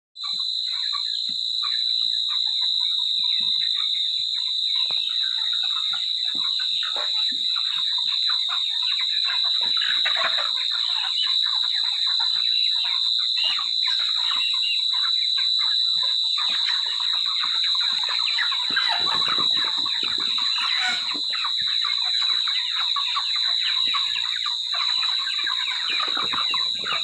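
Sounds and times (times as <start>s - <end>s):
chickens peeping and clucking: 0.2s - 27.0s.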